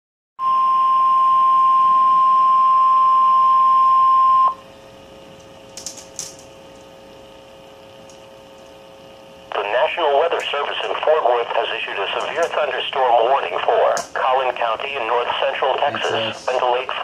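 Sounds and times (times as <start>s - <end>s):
faint hum and hiss: 0.9s - 17.0s.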